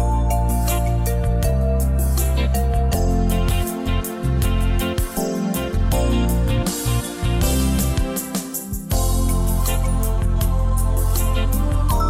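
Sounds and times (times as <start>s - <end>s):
steady bass: 0.0s - 8.1s, 8.9s - 12.0s
background music with guitar: 0.0s - 12.0s.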